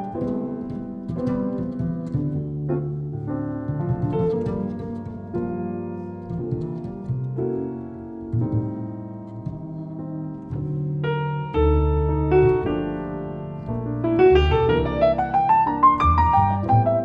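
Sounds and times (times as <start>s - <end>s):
acoustic piano: 0.0s - 17.0s
double bass low notes: 0.0s - 17.0s.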